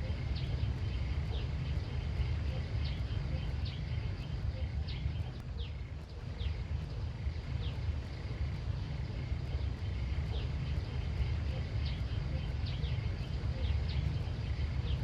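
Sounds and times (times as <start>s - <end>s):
faint high hum: 0.0s - 15.0s
steady low rumble: 0.0s - 15.0s.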